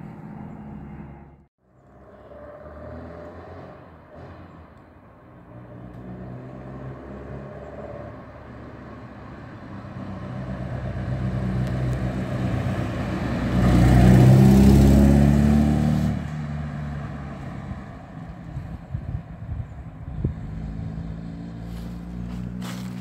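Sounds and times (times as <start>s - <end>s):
car engine passing by: 0.0s - 4.8s, 5.4s - 23.0s.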